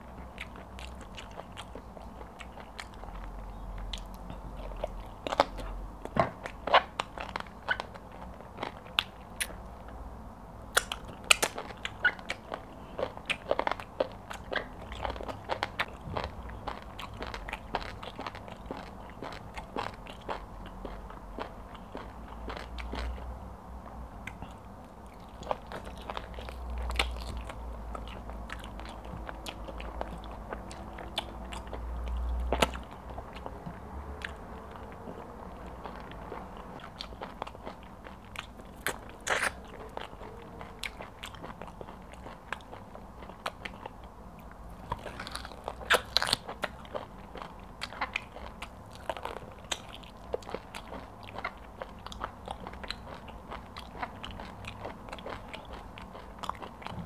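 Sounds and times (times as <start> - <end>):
wet chewing and lip smacks: 0.2 - 9.8, 10.7 - 23.2, 24.2 - 57.0.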